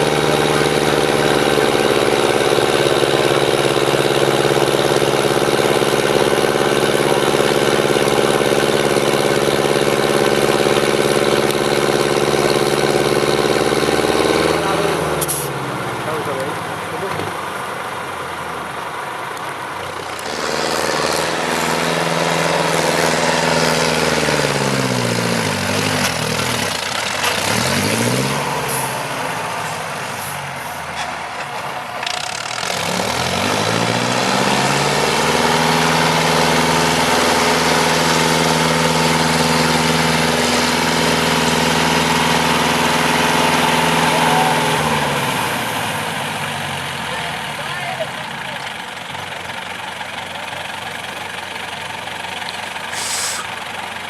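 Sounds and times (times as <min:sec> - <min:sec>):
truck diesel engine revving: 0:00.0 - 0:54.0.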